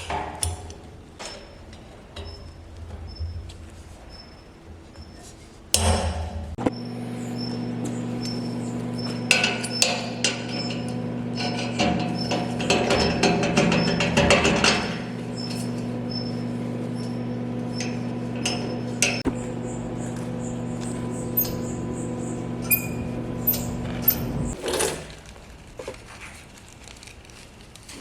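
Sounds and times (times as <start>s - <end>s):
steady machine hum: 0.7s - 25.7s.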